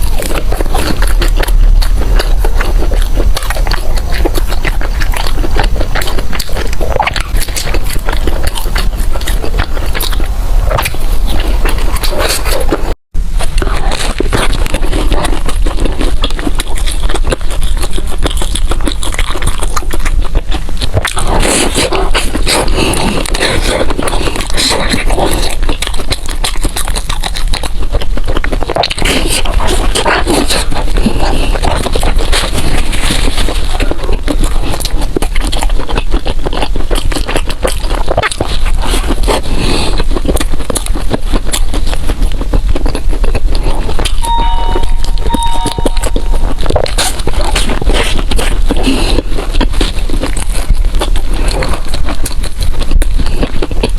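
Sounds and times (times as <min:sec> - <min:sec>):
close chewing: 0:00.0 - 0:53.9
small crackles and clicks: 0:00.0 - 0:53.9.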